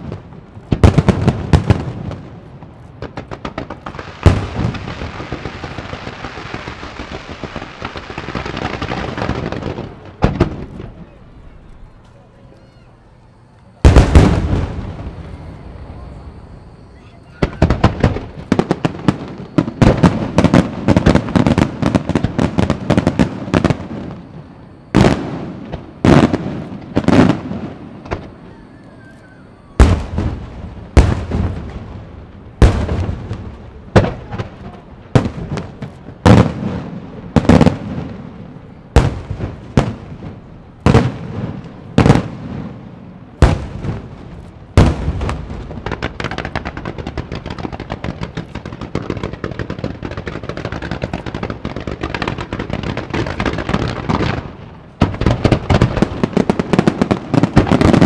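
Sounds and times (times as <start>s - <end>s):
firework shells booming: 0.0s - 58.0s
rattle of small firework reports: 2.6s - 42.4s, 43.4s - 58.0s.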